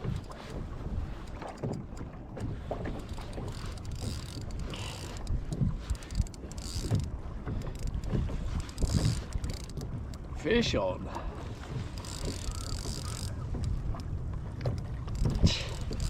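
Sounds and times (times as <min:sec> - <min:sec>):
small waves slapping hull: 0:00.0 - 0:16.0
wind buffeting microphone: 0:00.0 - 0:16.0.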